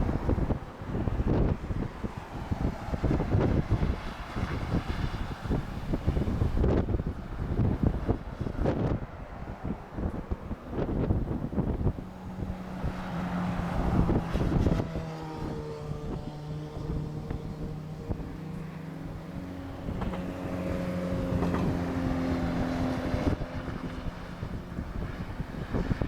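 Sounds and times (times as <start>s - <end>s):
airliner jet engines humming: 0.0s - 26.0s
wind on microphone: 0.0s - 26.0s.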